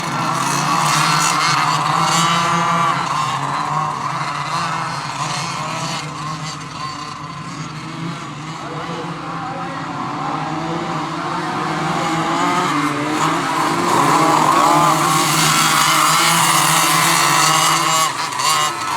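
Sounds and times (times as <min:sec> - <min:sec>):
go-kart engines buzzing: 0:00.0 - 0:18.9.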